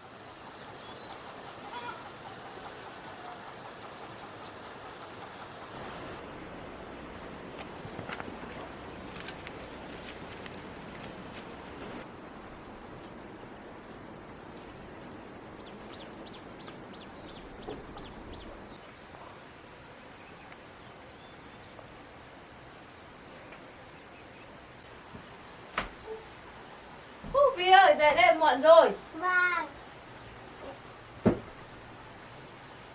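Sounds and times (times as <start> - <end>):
insects buzzing: 0.0 - 32.9
soft background hiss: 5.8 - 32.9.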